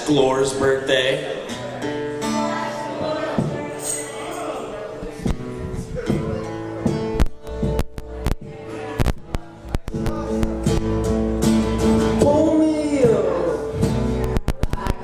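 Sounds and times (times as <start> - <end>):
guitar strumming: 0.5 - 15.0.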